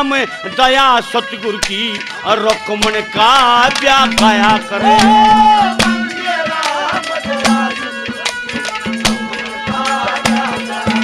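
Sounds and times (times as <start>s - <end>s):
drum striking quick rhythm: 0.8s - 11.0s.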